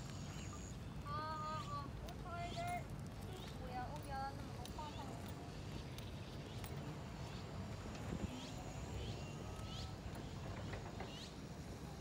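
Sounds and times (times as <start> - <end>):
small birds chirping: 0.0 - 7.7, 8.3 - 11.4
low steady outdoor rumble: 0.0 - 12.0.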